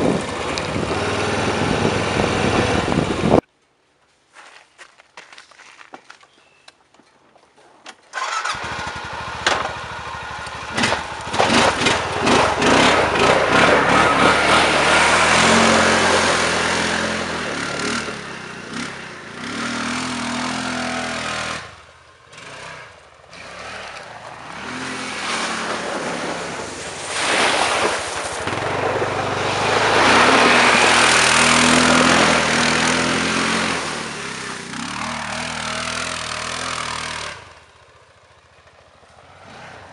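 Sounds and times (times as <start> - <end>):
atv engine revving: 0.0 - 3.4, 8.1 - 39.9.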